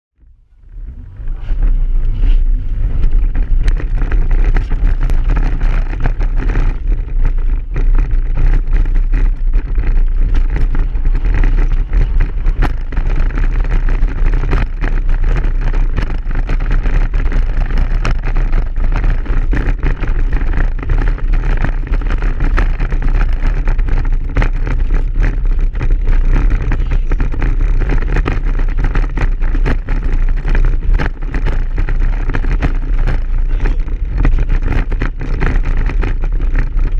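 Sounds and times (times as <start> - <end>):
car engine low rumble: 0.1 - 36.9
knocks and rattles over bumps: 0.5 - 36.9.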